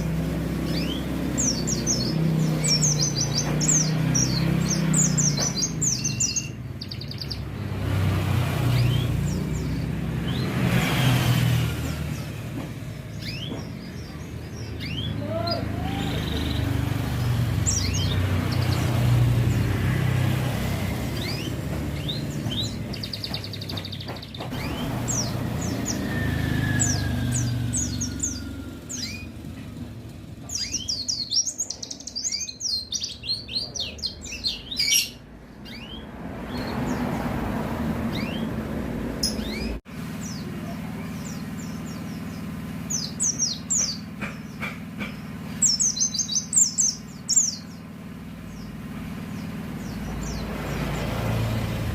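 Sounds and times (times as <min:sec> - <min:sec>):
small bird chirping and singing: 0:00.0 - 0:37.3, 0:38.1 - 0:38.6, 0:39.2 - 0:51.9
road traffic rumbling: 0:00.0 - 0:51.9.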